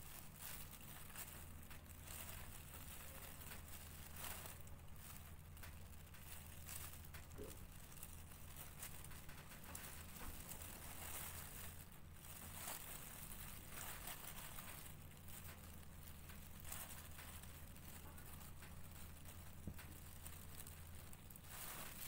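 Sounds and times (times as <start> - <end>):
low steady hum: 0.0 - 22.0
plastic gloves and paper rustling: 0.0 - 22.0.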